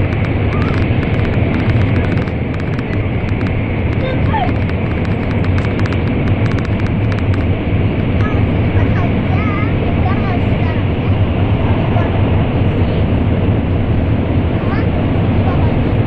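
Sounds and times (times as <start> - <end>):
low hum: 0.0 - 16.0
train rushing noise in tunnel: 0.0 - 16.0.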